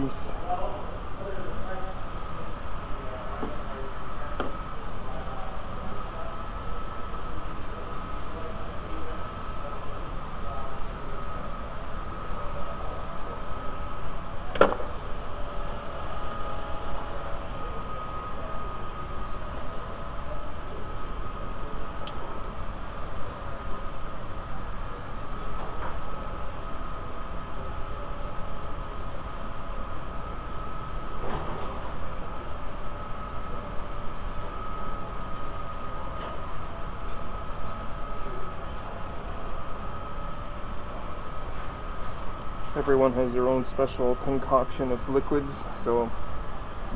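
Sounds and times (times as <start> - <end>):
faint high whine: 0.0 - 46.9
workshop machinery hum: 0.0 - 46.9.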